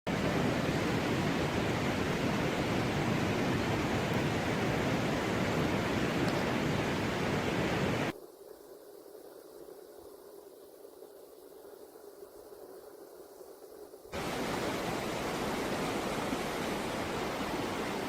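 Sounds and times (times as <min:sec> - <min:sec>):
faint hiss: 0:00.2 - 0:18.0.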